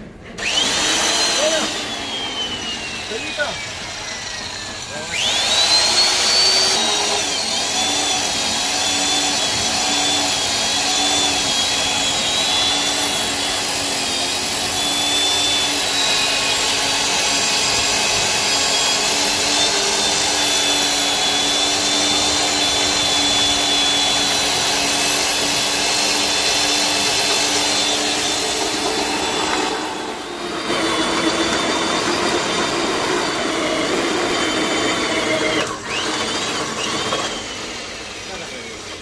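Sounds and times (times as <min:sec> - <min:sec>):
electric drill drilling into metal: 0:00.3 - 0:39.0.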